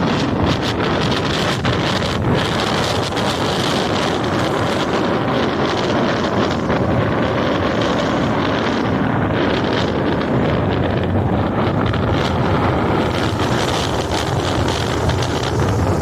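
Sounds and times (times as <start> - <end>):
rough sea waves breaking: 0.0 - 16.0
wind buffeting microphone: 0.0 - 16.0.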